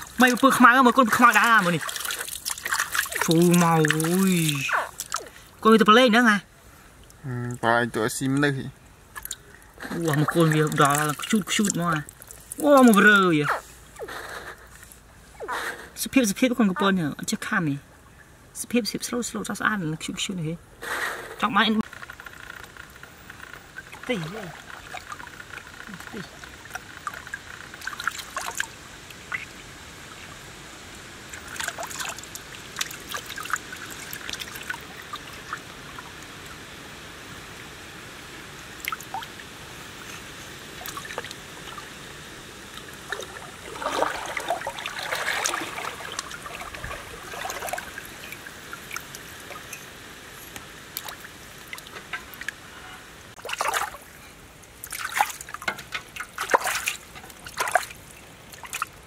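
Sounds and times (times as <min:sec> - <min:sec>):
water splashing: 0:00.0 - 0:06.0, 0:06.7 - 0:14.7, 0:22.8 - 0:59.0
faint background noise: 0:00.0 - 0:59.0.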